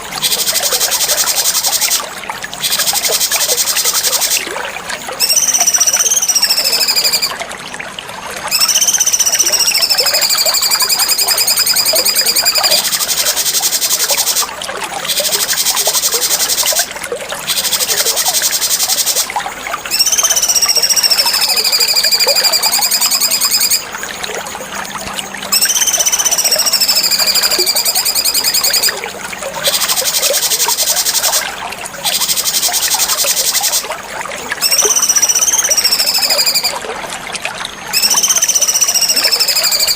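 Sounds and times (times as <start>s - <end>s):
buzzy whistled bird song: 0.0s - 2.0s, 2.6s - 4.4s, 5.2s - 7.4s, 8.5s - 19.3s, 19.9s - 24.1s, 25.2s - 31.4s, 32.0s - 33.9s, 34.6s - 36.8s, 37.9s - 39.9s.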